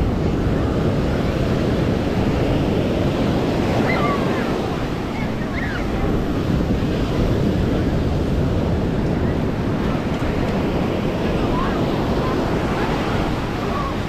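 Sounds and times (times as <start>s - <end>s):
faint voices: 0.0s - 14.0s
ocean surf on a sandy beach: 0.0s - 14.0s
wind rumbling on microphone: 0.0s - 14.0s.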